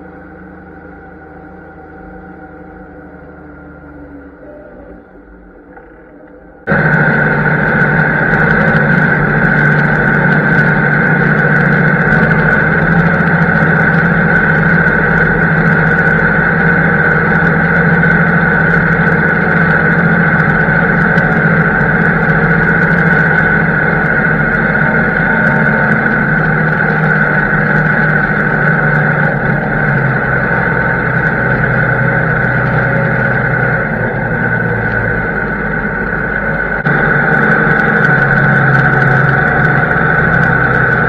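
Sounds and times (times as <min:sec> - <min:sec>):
farm machinery engine drone: 0:00.0 - 0:41.0
steady high whine: 0:00.0 - 0:41.0.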